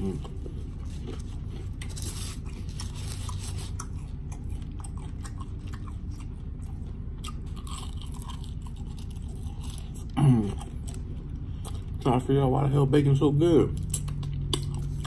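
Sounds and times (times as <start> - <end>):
person chewing crunchy food: 0.0 - 12.3, 13.7 - 15.0
steady low hum: 0.0 - 15.0.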